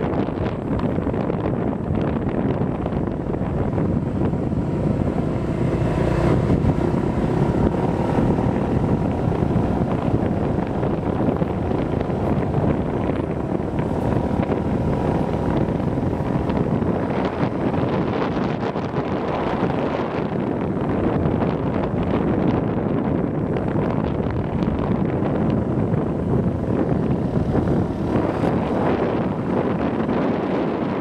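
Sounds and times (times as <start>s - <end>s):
motorbike engine running: 0.0s - 31.0s
wind rushing over microphone: 0.0s - 31.0s.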